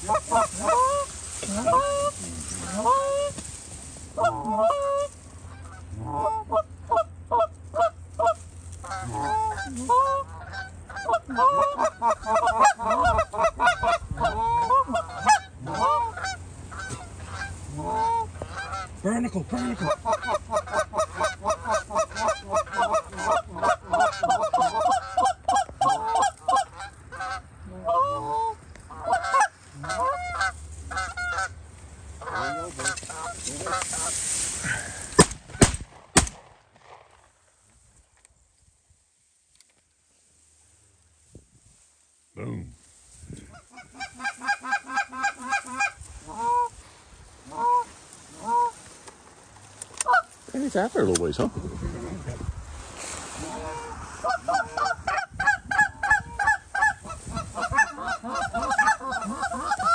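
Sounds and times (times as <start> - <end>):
geese honking and clucking: 0.0 - 35.7, 43.2 - 51.6, 52.8 - 59.9.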